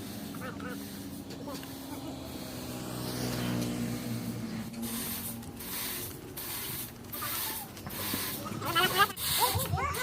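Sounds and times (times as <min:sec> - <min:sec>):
saw rasping through wood: 0:00.0 - 0:10.0.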